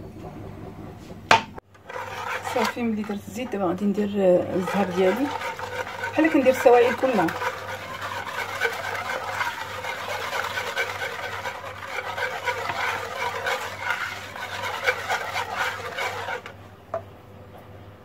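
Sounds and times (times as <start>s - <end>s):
whisk beating mixture in bowl: 1.7s - 16.6s.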